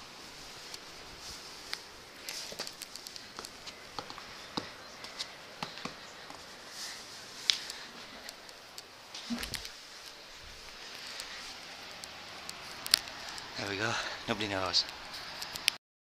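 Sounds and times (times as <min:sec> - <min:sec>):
faint hiss: 0:00.0 - 0:15.8.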